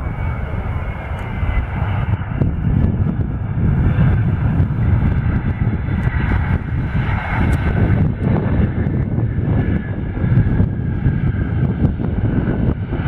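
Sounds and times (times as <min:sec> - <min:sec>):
faint jet engine whine: 0:00.0 - 0:13.0
jet engine rumble: 0:00.0 - 0:13.0.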